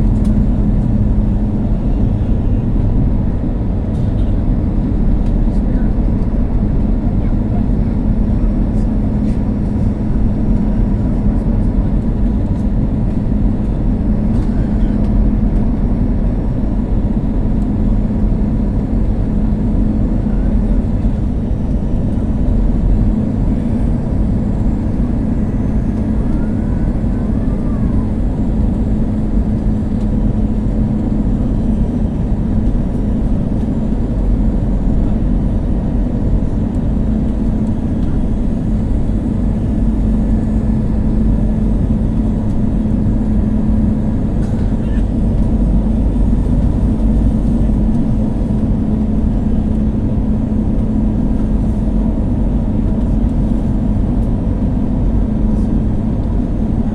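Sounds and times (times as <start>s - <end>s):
jet engine drone in cabin: 0.0s - 56.9s.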